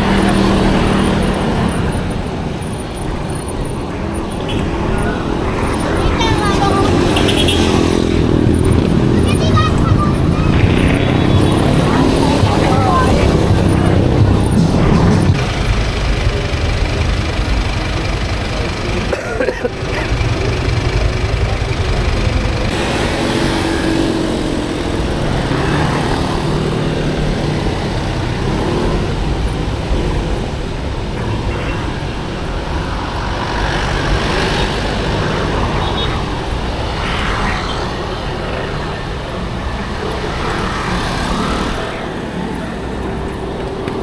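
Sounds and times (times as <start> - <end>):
engine hum: 0.0 - 44.0
road traffic noise: 0.0 - 44.0.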